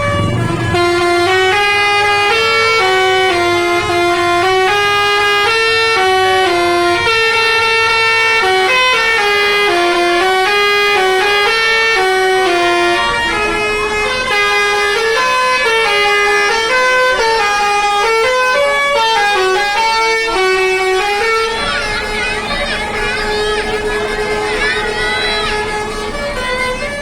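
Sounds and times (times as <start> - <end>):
musical air horn tune: 0.0 - 27.0.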